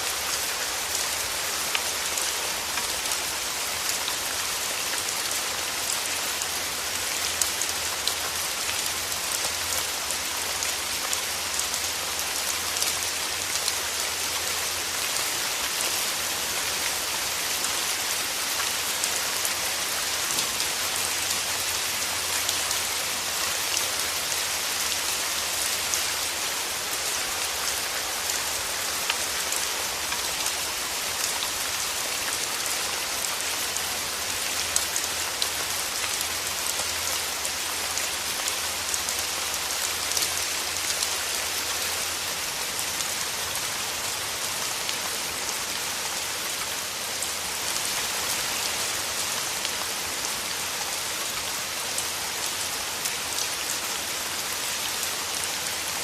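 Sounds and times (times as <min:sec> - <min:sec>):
raindrops striking leaves: 0:00.0 - 0:56.0
steady hiss of rainfall: 0:00.0 - 0:56.0.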